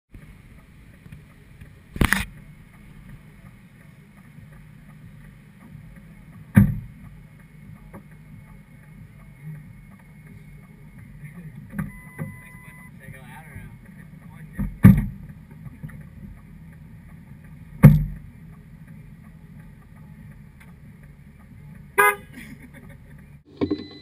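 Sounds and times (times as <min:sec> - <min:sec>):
car engine idling: 0:00.1 - 0:24.0.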